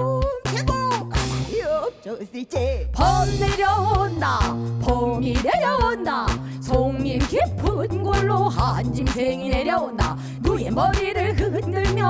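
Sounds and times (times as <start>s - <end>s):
drum kit groove: 0.0s - 12.0s
person singing with bending notes: 0.0s - 12.0s.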